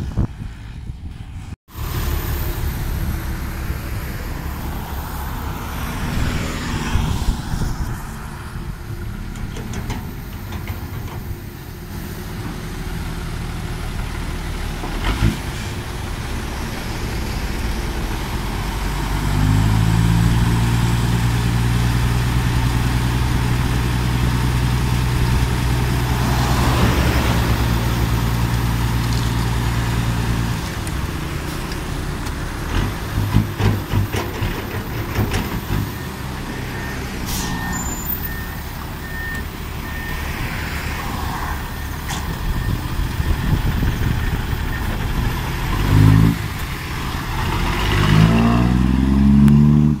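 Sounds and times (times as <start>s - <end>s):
diesel engine revving: 1.7s - 50.0s.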